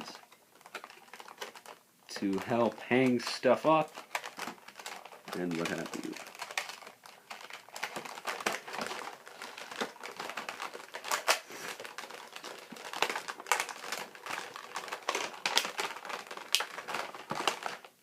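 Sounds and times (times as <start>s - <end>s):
toy packaging crinkling: 0.0s - 18.0s.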